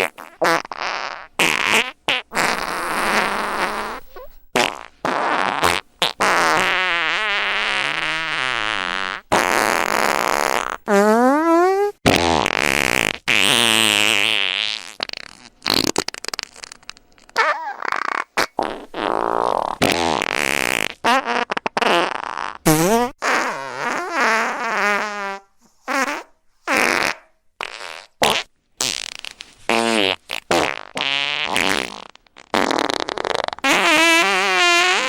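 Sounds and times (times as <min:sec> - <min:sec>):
fart sound effects: 0:00.0 - 0:35.0.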